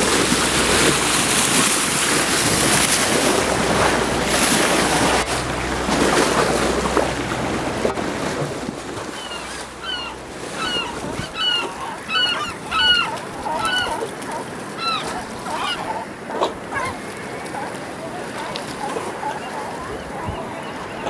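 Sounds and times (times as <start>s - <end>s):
seabird honking calls: 0.0s - 21.0s
water noise: 0.0s - 21.0s
wind: 0.0s - 21.0s.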